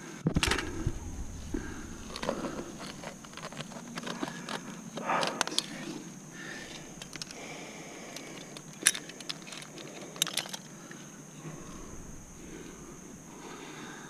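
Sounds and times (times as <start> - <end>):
background hiss: 0.0 - 14.0
carabiners clinking: 0.4 - 13.6.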